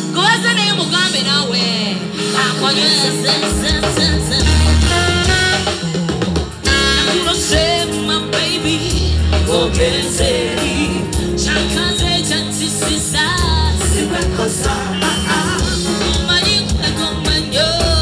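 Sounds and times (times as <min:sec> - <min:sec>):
live band music: 0:00.0 - 0:18.0
woman singing: 0:00.2 - 0:05.5, 0:06.7 - 0:18.0.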